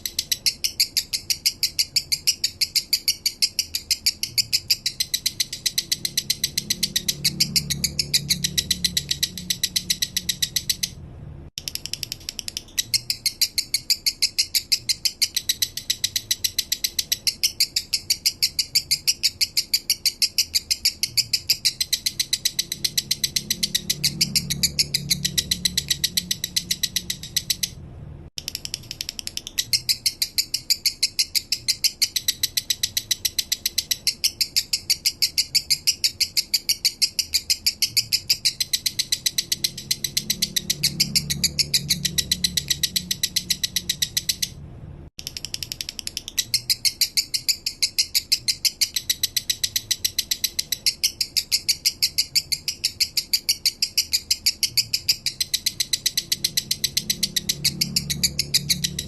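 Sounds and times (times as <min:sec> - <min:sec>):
lovebird chirping song: 0:00.0 - 0:11.0, 0:11.6 - 0:44.6, 0:45.2 - 0:59.0.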